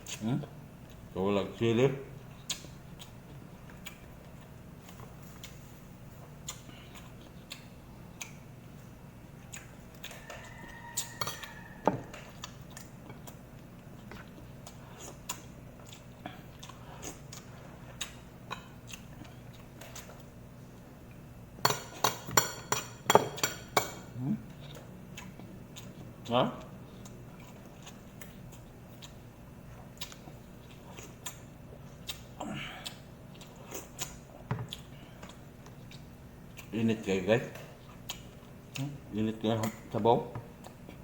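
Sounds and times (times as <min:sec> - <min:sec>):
chewing: 0:02.2 - 0:21.2, 0:24.4 - 0:41.0.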